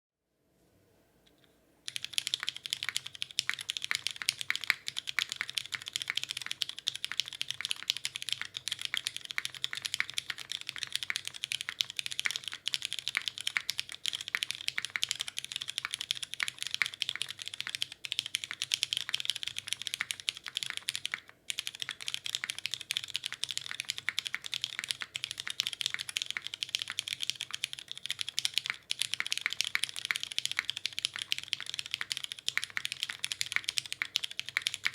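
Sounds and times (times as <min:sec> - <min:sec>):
mechanical keyboard typing: 0:01.9 - 0:34.9.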